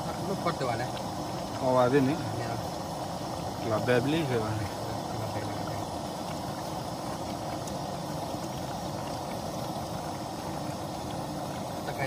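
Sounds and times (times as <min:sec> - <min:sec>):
camp stove burner rushing: 0:00.0 - 0:12.0.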